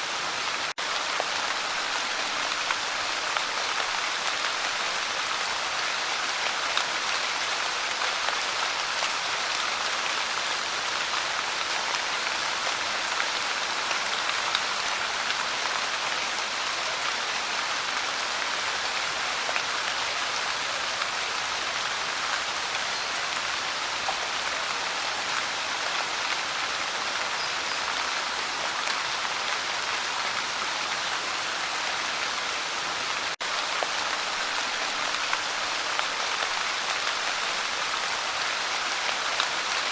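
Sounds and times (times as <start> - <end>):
light rain patter: 0.0 - 39.9.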